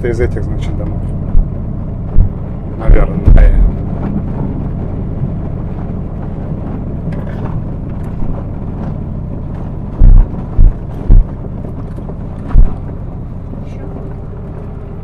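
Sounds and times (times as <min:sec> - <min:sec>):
car road and engine rumble: 0:00.0 - 0:15.0
heavy low thumps: 0:00.0 - 0:15.0.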